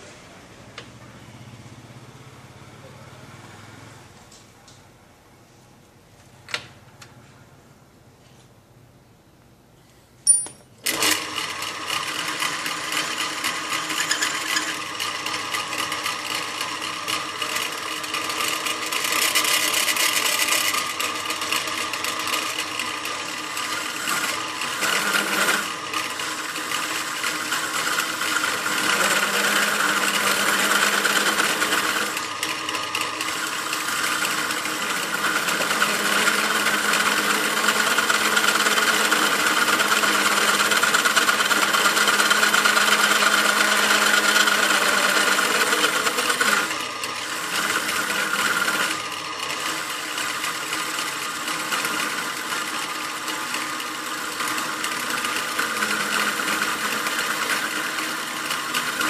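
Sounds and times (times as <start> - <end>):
drill press motor drilling metal: 10.4 - 59.0.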